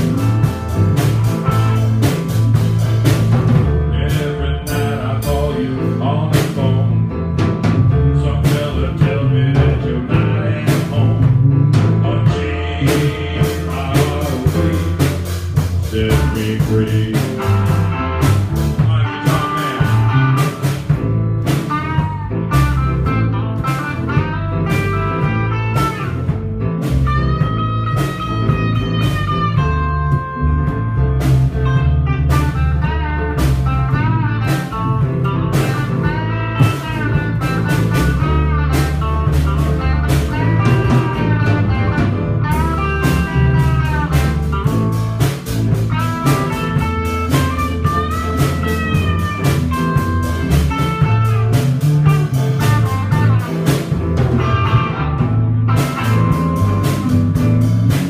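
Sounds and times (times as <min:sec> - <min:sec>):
bass line: 0:00.0 - 0:58.0
drums: 0:00.0 - 0:58.0
lead guitar bending notes: 0:00.0 - 0:58.0.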